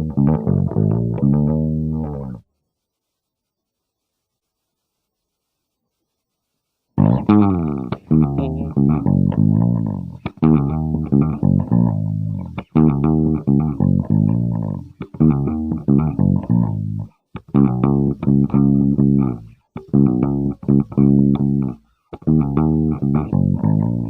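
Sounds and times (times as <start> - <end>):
electric bass guitar plucked: 0.0 - 2.4, 7.0 - 24.0.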